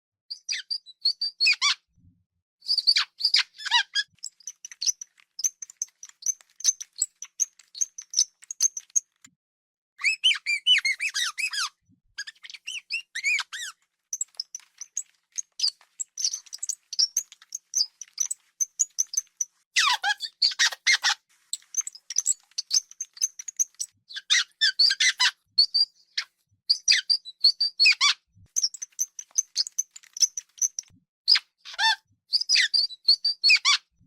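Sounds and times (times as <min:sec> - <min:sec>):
hamster squeaking: 0:00.3 - 0:01.9, 0:02.6 - 0:09.2, 0:10.0 - 0:33.9.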